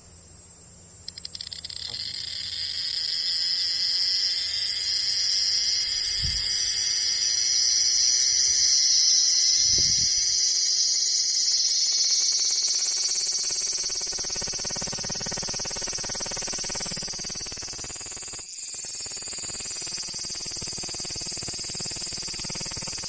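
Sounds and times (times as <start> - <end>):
cicada buzzing: 0.4 - 23.0.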